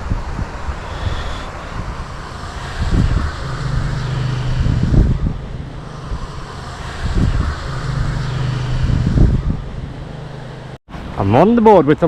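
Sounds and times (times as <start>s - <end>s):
low steady hum: 0.0s - 10.8s
wind buffeting microphone: 0.0s - 10.8s.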